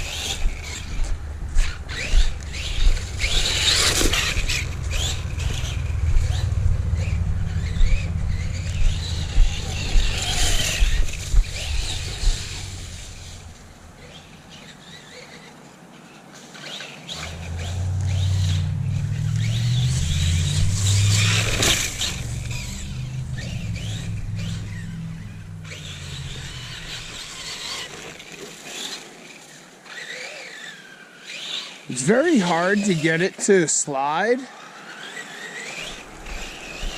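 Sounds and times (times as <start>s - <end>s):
electric motor whining: 0.0s - 15.5s, 16.7s - 33.2s, 34.5s - 36.9s.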